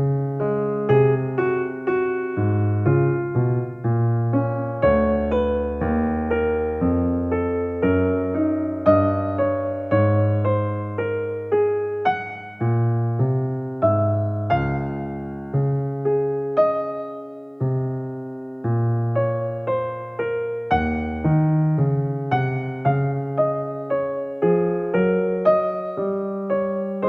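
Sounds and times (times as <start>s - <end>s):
slow electric piano melody: 0.0s - 27.0s.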